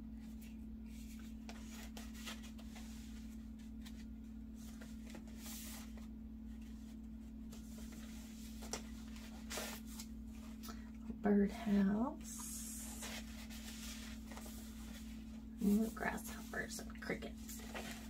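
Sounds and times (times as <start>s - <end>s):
steady low hum: 0.0s - 18.0s
paper rustling and sliding: 0.2s - 10.6s, 12.8s - 16.4s, 17.2s - 18.0s.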